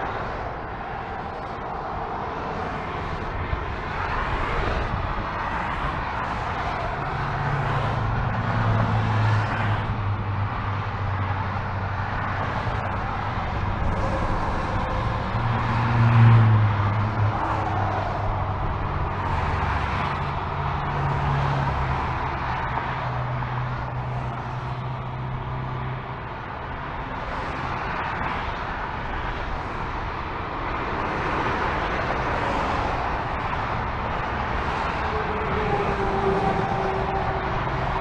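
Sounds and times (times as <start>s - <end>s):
freeway traffic rushing: 0.0s - 38.0s
heavy truck engine drone: 0.0s - 38.0s.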